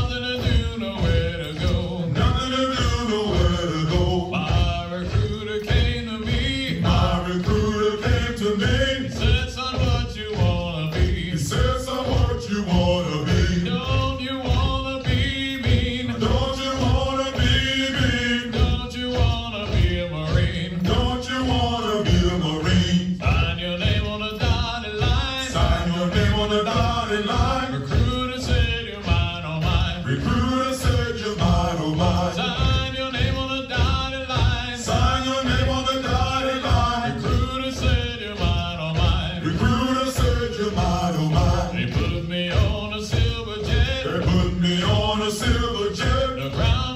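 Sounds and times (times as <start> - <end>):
men singing a marching chant: 0.0 - 46.9.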